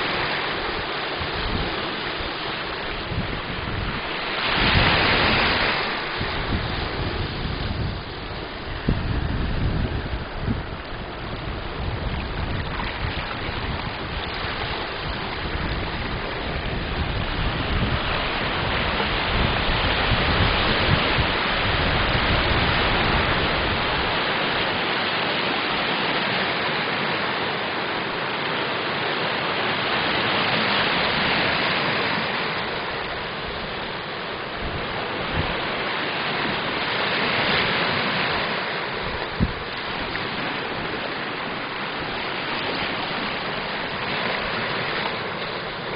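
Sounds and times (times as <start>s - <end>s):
wind buffeting microphone: 0.0s - 26.9s, 30.0s - 45.9s
small waves on sandy shore: 0.0s - 45.9s.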